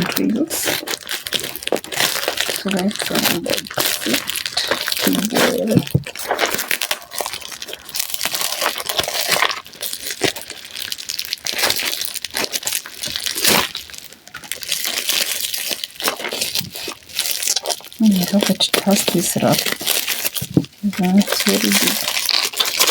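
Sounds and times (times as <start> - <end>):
parcel packaging crinkling: 0.0 - 22.9.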